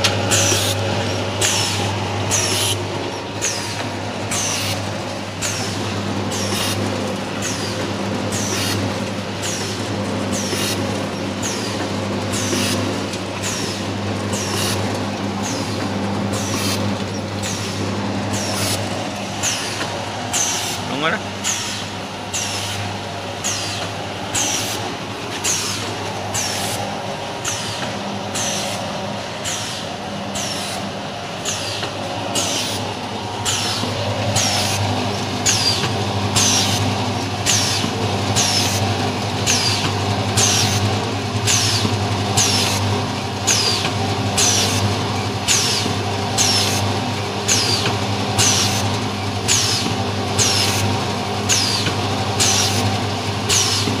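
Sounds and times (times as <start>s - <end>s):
packing machine humming: 0.0s - 54.0s.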